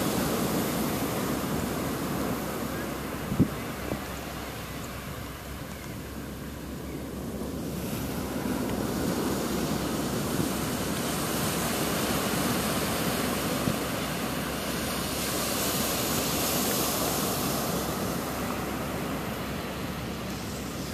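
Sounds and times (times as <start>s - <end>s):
steady rushing noise: 0.0s - 20.9s.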